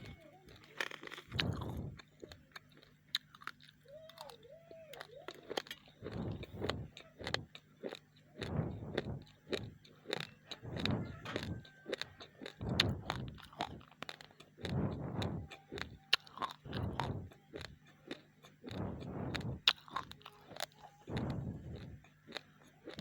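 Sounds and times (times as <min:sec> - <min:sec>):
raw rice being chewed: 0:00.0 - 0:23.0.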